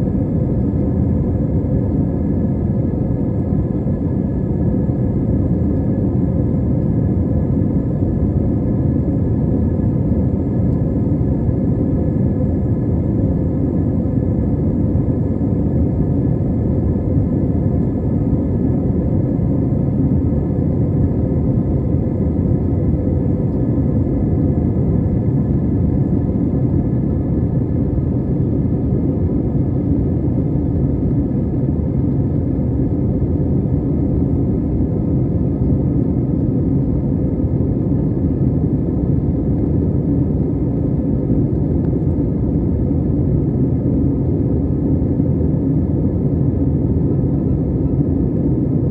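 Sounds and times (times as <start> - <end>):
faint steady whine: 0.0 - 48.9
jet engines and airflow rumbling: 0.0 - 48.9.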